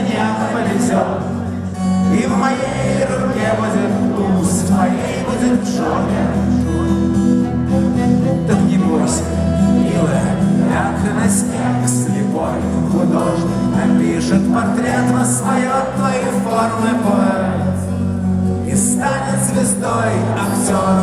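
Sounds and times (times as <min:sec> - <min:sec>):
person singing: 0:00.0 - 0:21.0
rock band playing live: 0:00.0 - 0:21.0.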